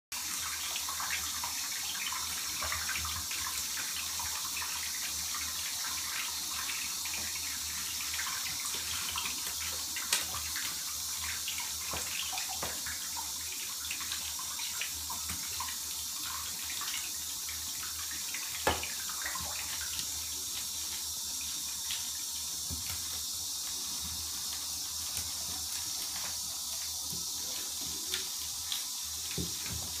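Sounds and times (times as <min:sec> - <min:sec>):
water running from bathtub tap: 0:00.1 - 0:30.0.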